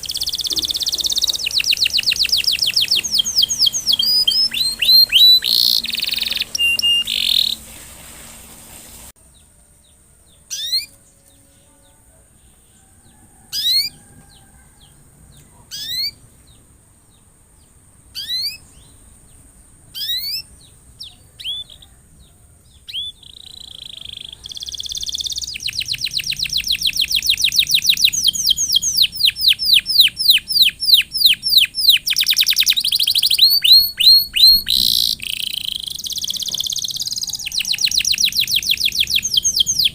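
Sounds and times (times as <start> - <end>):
canary singing: 0.0 - 7.8, 9.2 - 39.9.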